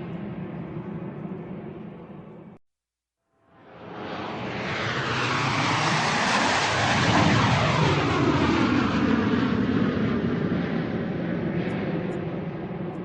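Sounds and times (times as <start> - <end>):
airplane flying overhead: 0.0 - 2.6, 3.5 - 13.0.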